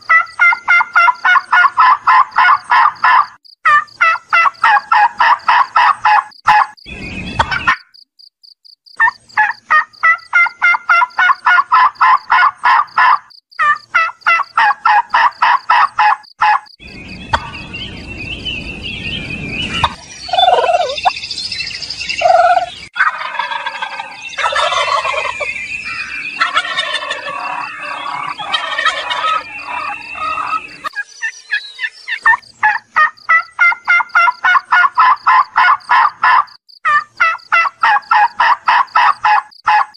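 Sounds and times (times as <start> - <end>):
background noise: 0.0 - 39.9
turkeys gobbling: 0.1 - 6.8, 7.4 - 7.8, 9.0 - 16.7, 17.3 - 17.6, 19.8 - 21.1, 22.2 - 31.1, 31.8 - 39.9.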